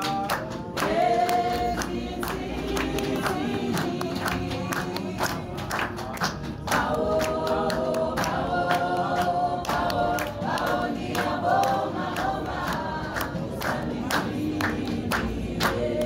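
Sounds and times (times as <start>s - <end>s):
choir singing: 0.0s - 6.0s, 6.6s - 16.0s
rhythmic hand clapping: 0.0s - 16.0s.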